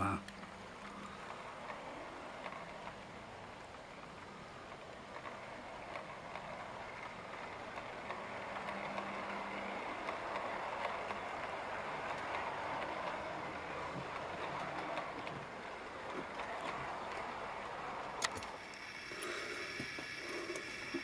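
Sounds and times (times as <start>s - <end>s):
model train wheels whirring: 0.0s - 21.0s.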